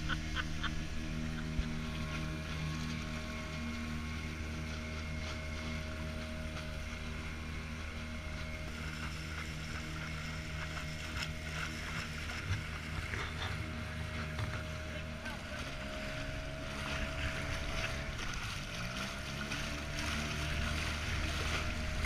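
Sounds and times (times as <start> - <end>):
boat motor running: 0.0 - 22.0
water rushing along hull: 0.0 - 22.0.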